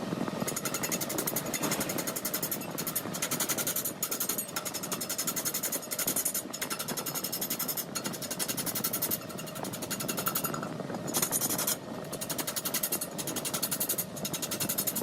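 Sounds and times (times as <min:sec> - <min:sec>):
tool chattering on spinning wood: 0:00.4 - 0:15.0
wood lathe turning: 0:00.4 - 0:15.0.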